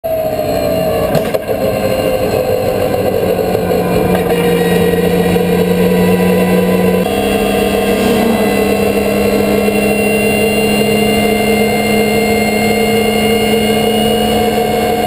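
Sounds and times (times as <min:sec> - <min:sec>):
car engine running hard: 0:00.1 - 0:15.0.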